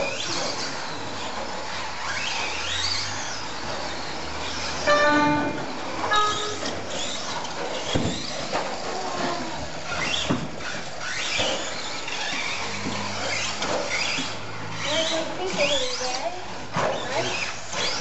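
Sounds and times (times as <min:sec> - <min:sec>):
rc truck motors whining: 0:00.0 - 0:18.0.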